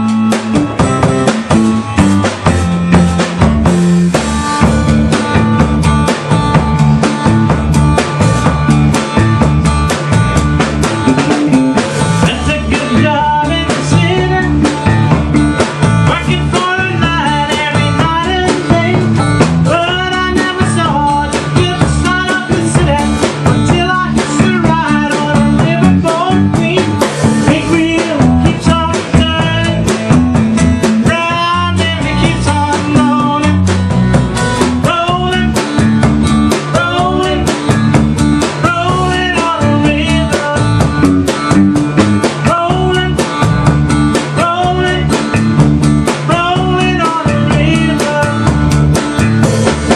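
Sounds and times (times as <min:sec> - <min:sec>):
band playing: 0:00.0 - 0:49.9
drum kit beat: 0:00.0 - 0:49.9
melodic lead line: 0:00.0 - 0:49.9.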